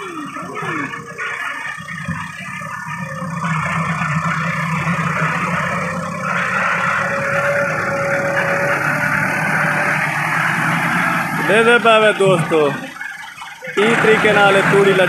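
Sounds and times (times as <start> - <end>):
diesel tractor engine under load: 0.0 - 15.0
thin steady whine: 0.0 - 15.0.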